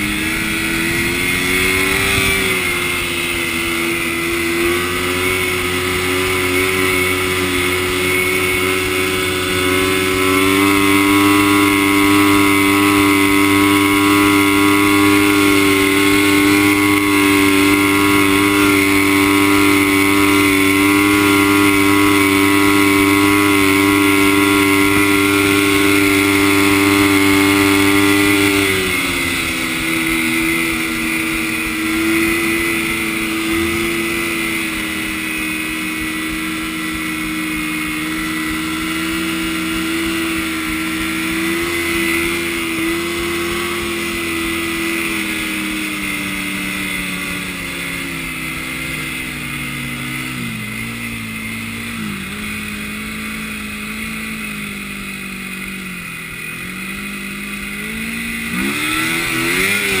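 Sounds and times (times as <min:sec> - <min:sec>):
snowmobile engine running: 0:00.0 - 1:00.0.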